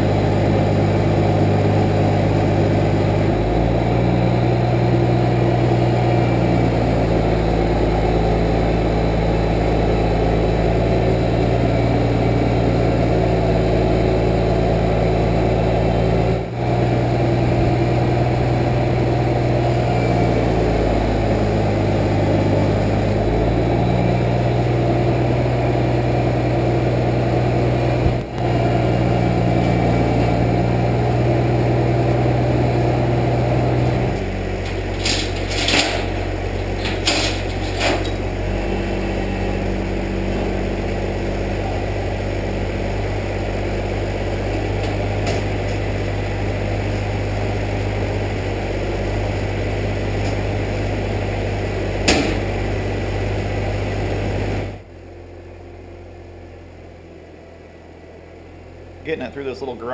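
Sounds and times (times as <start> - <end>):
truck engine running: 0.0 - 56.6, 57.3 - 59.9.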